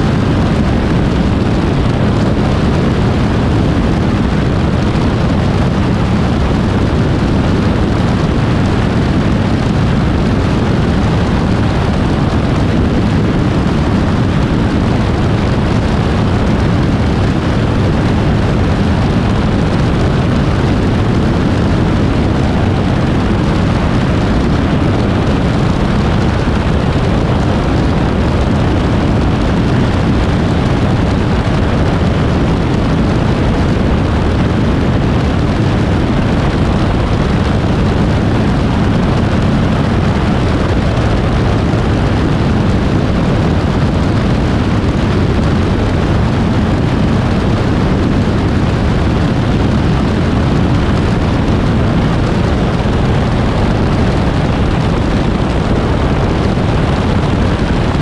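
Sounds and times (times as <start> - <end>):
aircraft engine rumble: 0.0 - 58.0
wind rush: 0.0 - 58.0.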